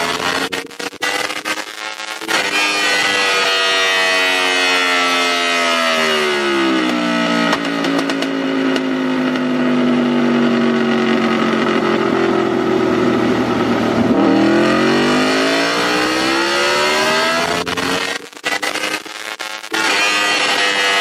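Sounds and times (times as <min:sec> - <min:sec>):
motorcycle engine revving on dyno: 0:02.2 - 0:19.1, 0:19.7 - 0:21.0.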